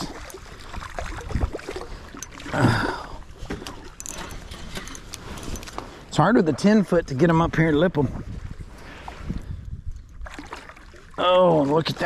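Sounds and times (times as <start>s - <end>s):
water sloshing against hull: 0.0s - 12.0s.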